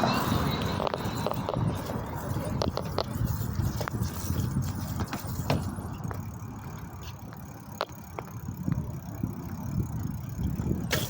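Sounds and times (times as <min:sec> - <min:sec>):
bicycle riding rumble: 0:00.0 - 0:11.0.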